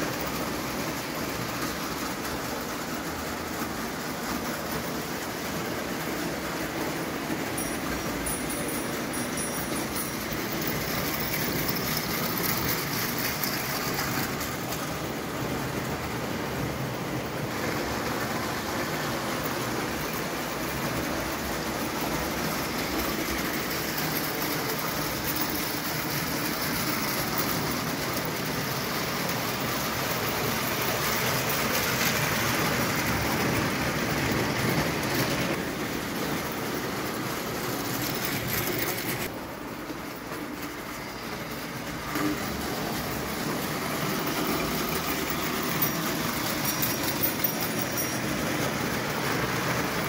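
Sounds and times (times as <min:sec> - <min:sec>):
model train wheels rattling on rails: 0:00.0 - 0:50.0.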